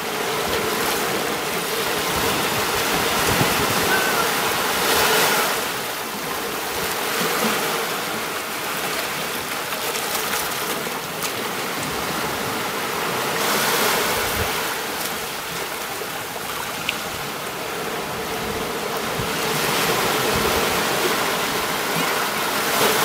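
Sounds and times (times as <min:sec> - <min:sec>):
waves washing onto beach: 0:00.0 - 0:23.0.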